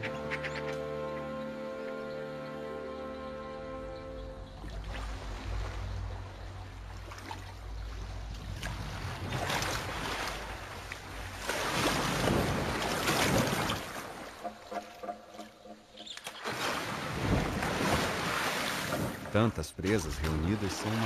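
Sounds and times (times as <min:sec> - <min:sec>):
water splashing and churning: 0:00.0 - 0:21.0.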